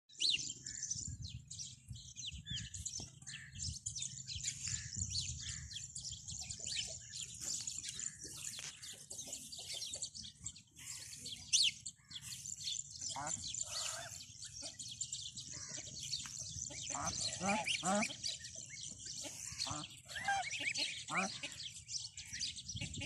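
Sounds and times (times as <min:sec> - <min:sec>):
small birds chirping: 0:00.1 - 0:23.0
ducklings peeping: 0:00.2 - 0:23.0.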